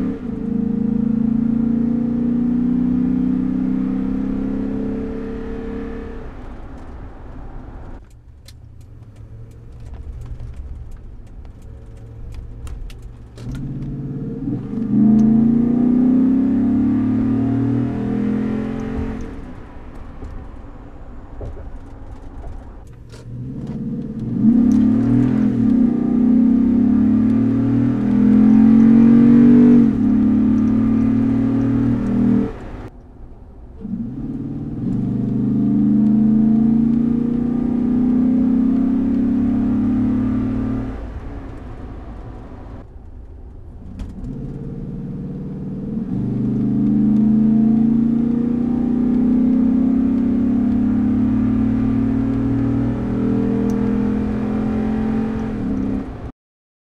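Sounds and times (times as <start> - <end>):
truck engine revving from inside cab: 0.0 - 8.0, 11.7 - 20.0, 22.3 - 32.9, 33.8 - 42.8, 43.9 - 56.3.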